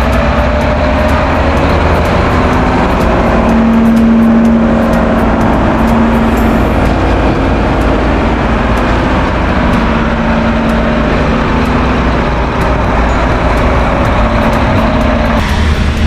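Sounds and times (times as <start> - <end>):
heavy diesel engines running: 0.0 - 16.0.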